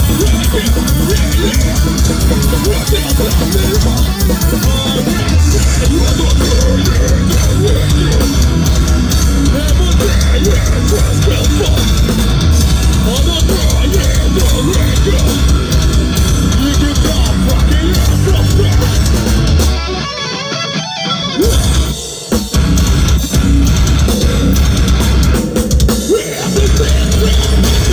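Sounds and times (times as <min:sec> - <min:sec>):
distorted electric guitars: 0:00.0 - 0:27.9
heavy drums: 0:00.0 - 0:27.9
metalcore band playing live: 0:00.0 - 0:27.9.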